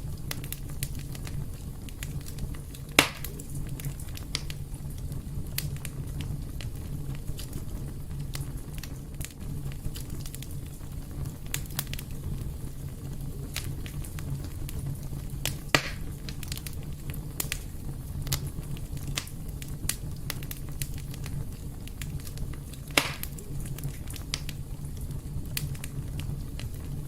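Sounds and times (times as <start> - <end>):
fire crackling and popping: 0.0 - 27.0
fire rumbling in a fireplace: 0.0 - 27.0.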